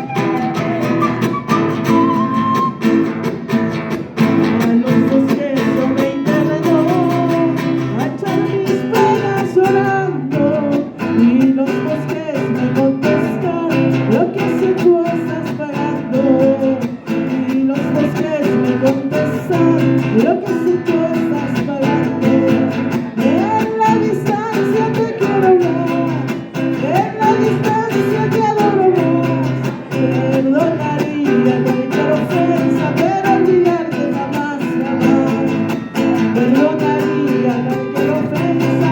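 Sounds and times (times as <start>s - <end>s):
acoustic guitar: 0.0s - 38.9s
person singing: 0.0s - 38.9s.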